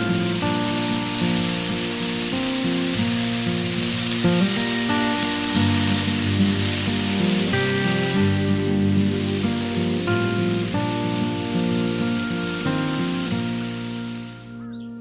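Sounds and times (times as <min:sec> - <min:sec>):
clams sizzling in a skillet: 0:00.0 - 0:14.5
background music with held notes: 0:00.0 - 0:15.0.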